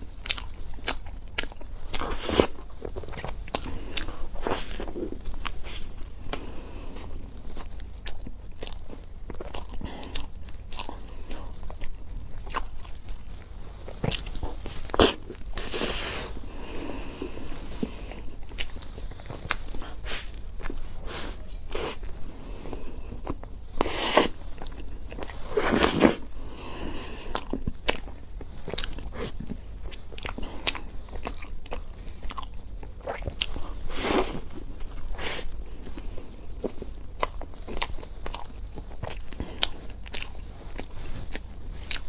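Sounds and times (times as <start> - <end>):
person chewing soft pastry: 0.0 - 42.0.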